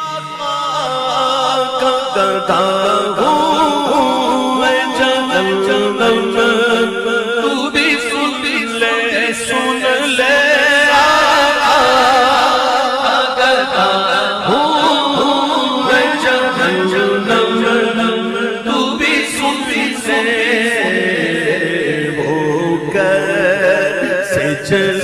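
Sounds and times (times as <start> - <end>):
layered vocal backing: 0.0 - 25.0
male lead voice singing: 0.0 - 25.0.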